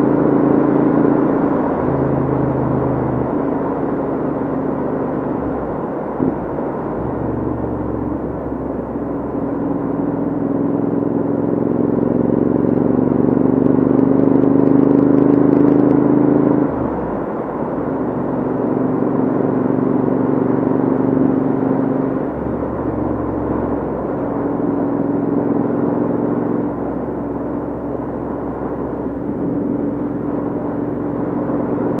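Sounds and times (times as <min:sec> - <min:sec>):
motorcycle exhaust: 0:00.0 - 0:32.0.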